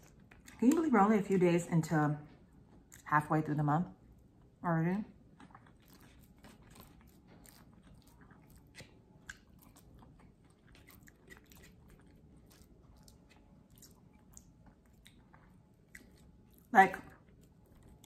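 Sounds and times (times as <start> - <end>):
chewing and biting: 0.0 - 0.9, 4.1 - 18.0.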